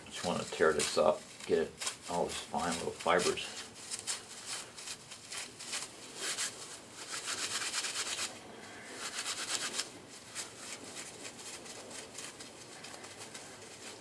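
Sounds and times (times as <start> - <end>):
bark fibres tearing and rustling: 0.1 - 14.0.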